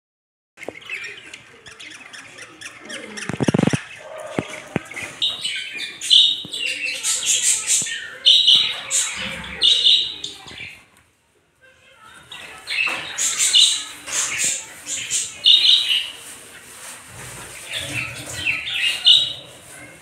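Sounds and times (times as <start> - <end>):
birds chirping and squawking: 0.6 - 10.9, 12.1 - 20.0.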